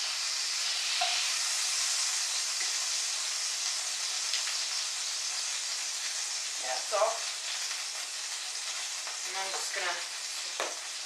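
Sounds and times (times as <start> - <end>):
sausages sizzling in a frying pan: 0.0 - 11.0.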